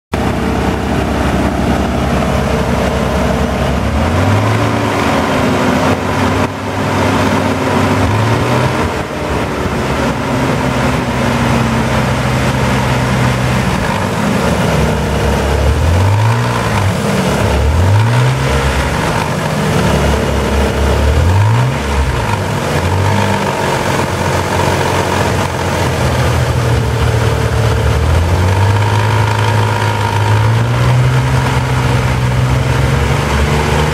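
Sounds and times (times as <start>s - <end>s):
car engine idling and revving: 0.1s - 33.9s
fluttering engine noise: 0.1s - 33.9s.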